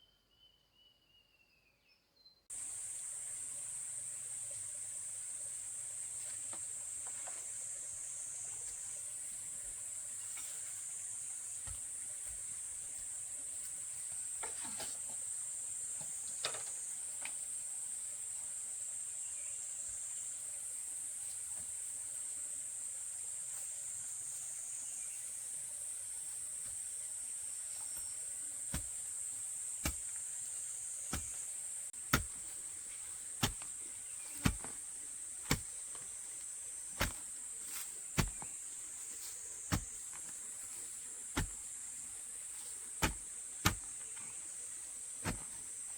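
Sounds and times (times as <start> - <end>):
insect chorus: 2.5 - 45.9.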